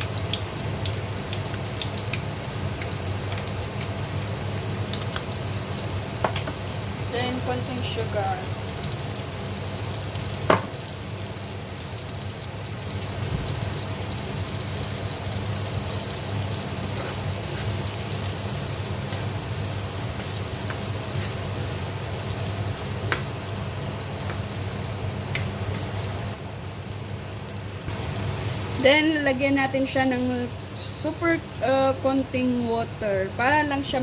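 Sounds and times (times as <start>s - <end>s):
green beans sizzling in a pan: 0.0s - 34.0s.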